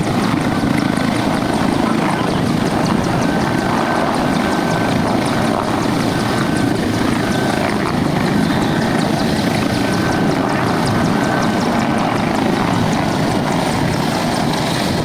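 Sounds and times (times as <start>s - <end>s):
helicopter rotor and engine noise: 0.0s - 15.0s.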